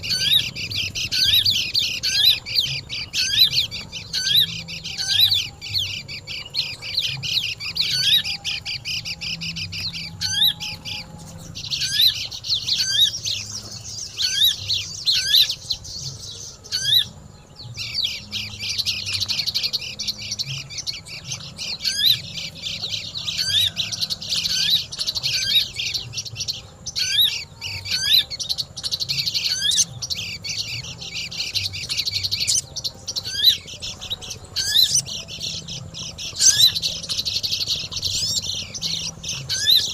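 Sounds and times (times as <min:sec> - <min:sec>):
birds chattering high chirps: 0:00.0 - 0:39.9.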